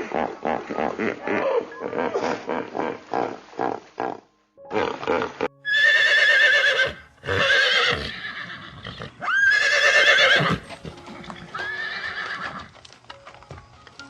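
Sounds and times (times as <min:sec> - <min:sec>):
horse neighing: 0:00.0 - 0:12.7.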